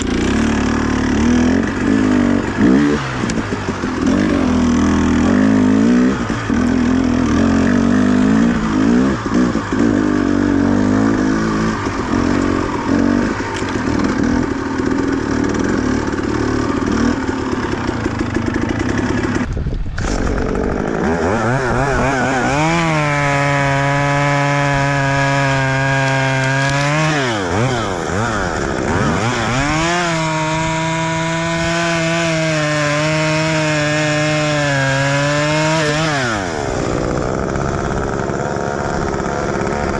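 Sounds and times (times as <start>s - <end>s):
chainsaw at full throttle: 0.0s - 39.9s
two-stroke engine running unevenly: 0.0s - 39.9s.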